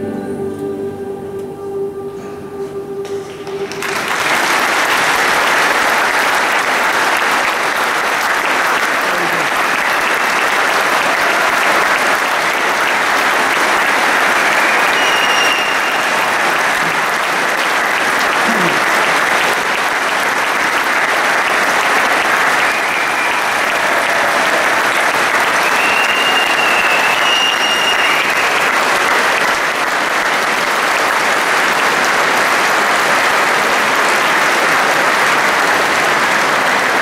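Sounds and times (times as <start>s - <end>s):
audience applauding: 3.0s - 37.0s.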